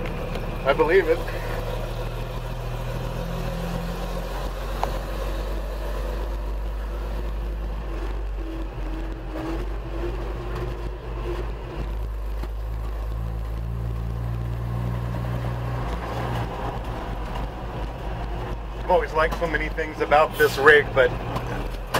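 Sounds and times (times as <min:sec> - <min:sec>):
fire engine engine drone: 0:00.0 - 0:21.9.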